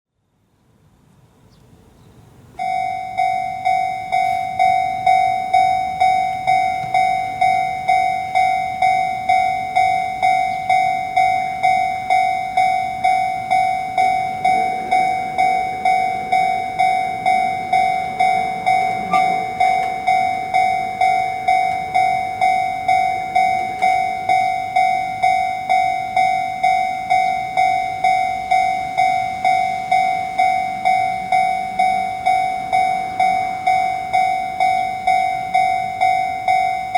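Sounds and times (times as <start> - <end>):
railroad crossing bell ringing: 2.5 - 36.9.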